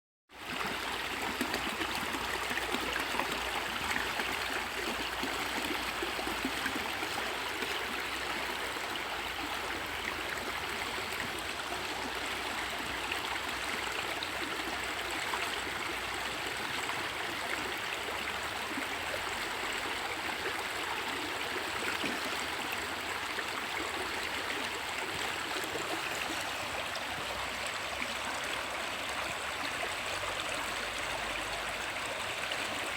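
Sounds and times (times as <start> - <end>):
river water flowing: 0.4 - 32.9.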